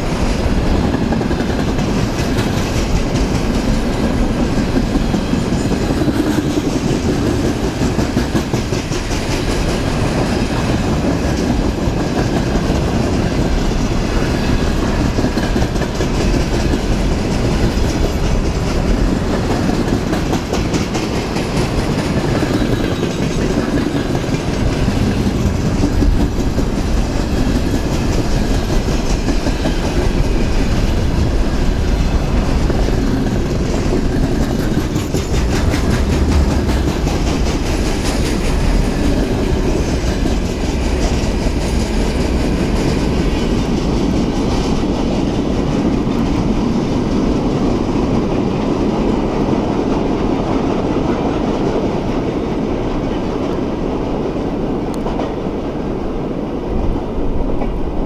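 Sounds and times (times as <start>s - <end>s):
wheels clicking over rail joints: 0.0s - 57.9s
train wheels rolling on rail: 0.0s - 58.0s.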